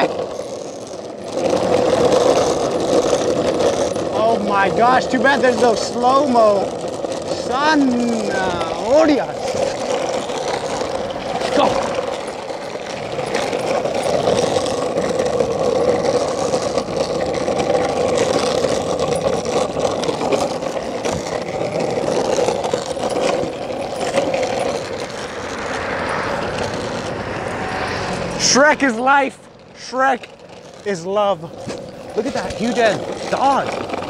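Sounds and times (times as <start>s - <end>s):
small wheels rolling on asphalt: 0.0s - 34.0s.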